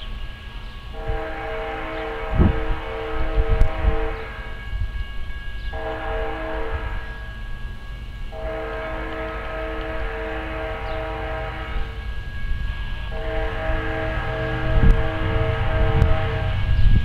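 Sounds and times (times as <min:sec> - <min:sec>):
distant locomotive air horn: 0:00.0 - 0:17.0.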